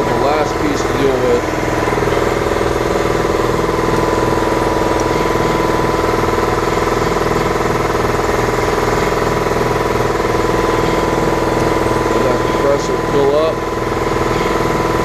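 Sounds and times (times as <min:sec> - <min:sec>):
air compressor pulsing: 0:00.0 - 0:15.0.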